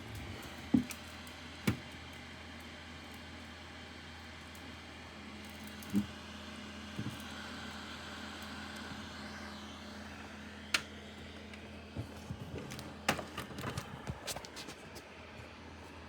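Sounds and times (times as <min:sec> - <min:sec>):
laptop cooling fan whirring: 0:00.0 - 0:16.0.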